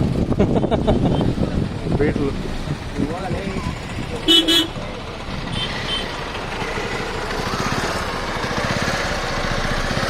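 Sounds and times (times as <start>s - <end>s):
small car engine running: 0.0s - 10.0s.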